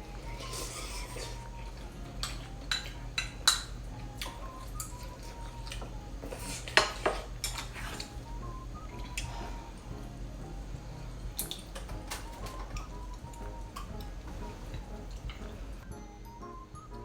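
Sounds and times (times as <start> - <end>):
utensils clinking against a bowl: 0.0 - 9.8, 11.3 - 15.8.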